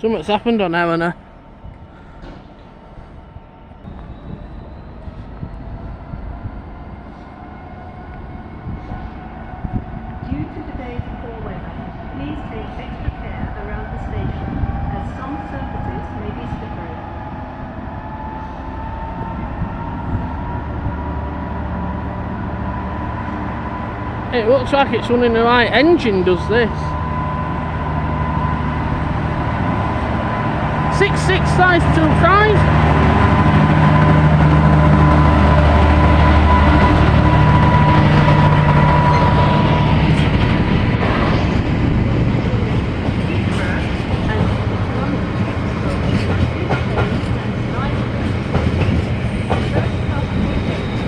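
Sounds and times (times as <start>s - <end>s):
diesel locomotive rumbling and whining: 0.0s - 51.0s.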